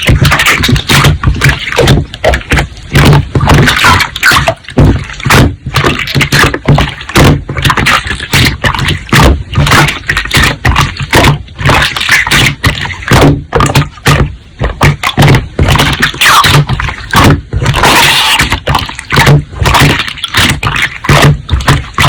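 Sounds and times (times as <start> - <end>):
slime squishing and popping: 0.0 - 22.0.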